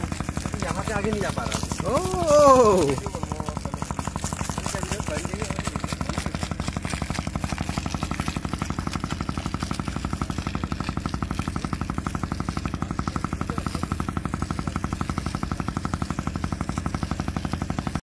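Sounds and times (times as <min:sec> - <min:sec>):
engine-driven water pump chugging: 0:00.0 - 0:18.0.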